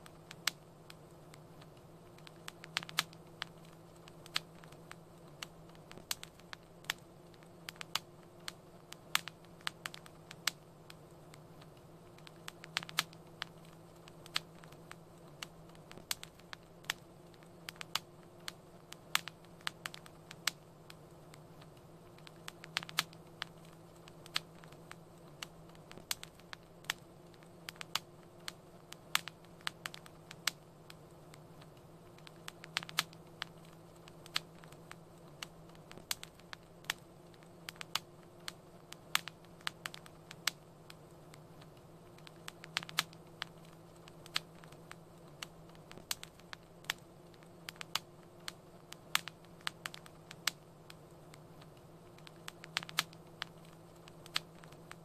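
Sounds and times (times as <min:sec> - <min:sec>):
steady low hum: 0:00.0 - 0:55.0
wood fire crackling: 0:00.0 - 0:55.0.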